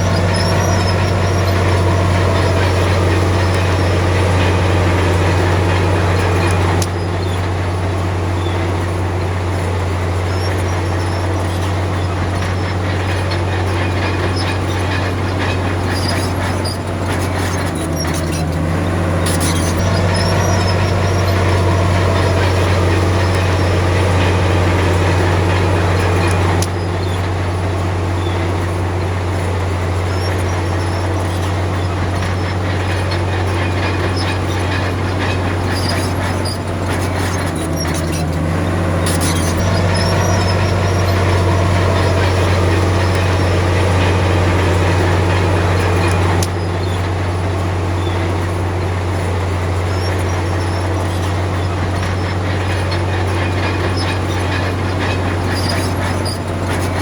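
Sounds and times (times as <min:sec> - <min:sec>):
bulldozer diesel engine droning: 0:00.0 - 0:57.0
steel tracks squealing and clanking: 0:00.0 - 0:57.0.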